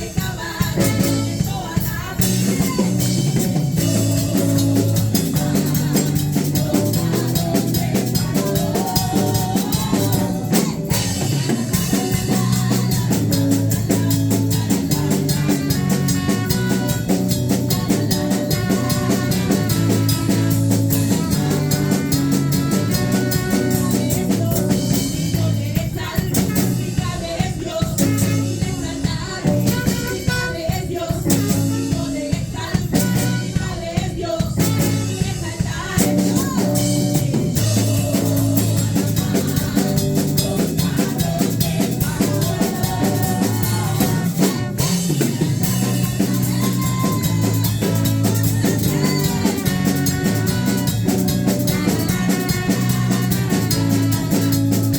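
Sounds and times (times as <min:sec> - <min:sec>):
drum kit beat: 0:00.0 - 0:54.9
live band playing: 0:00.0 - 0:54.9.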